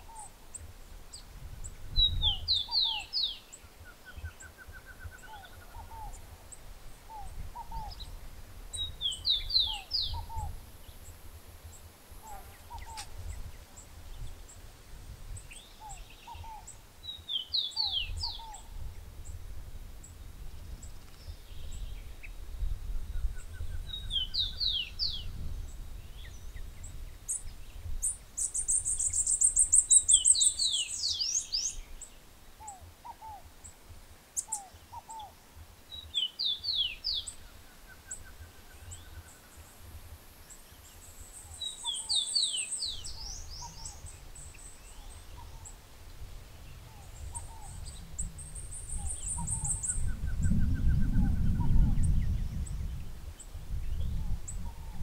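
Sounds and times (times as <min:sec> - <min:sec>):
birds singing: 0:00.0 - 0:14.6, 0:15.3 - 0:19.4, 0:20.0 - 0:55.0.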